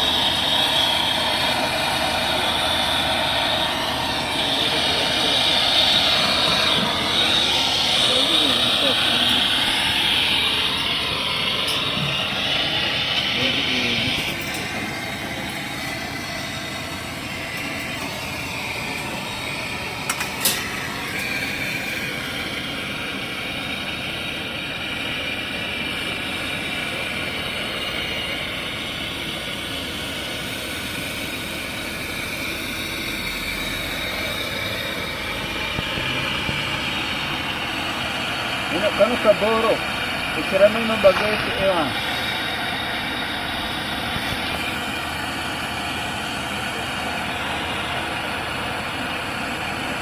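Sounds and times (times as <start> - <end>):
torch flame hissing: 0.0 - 50.0.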